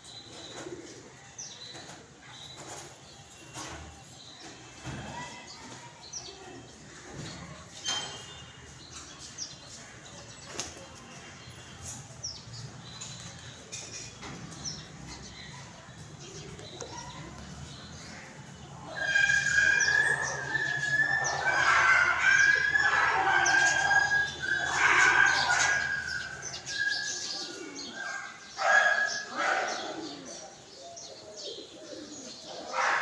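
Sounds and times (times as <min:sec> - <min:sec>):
birds chirping and calling: 0:00.0 - 0:33.0.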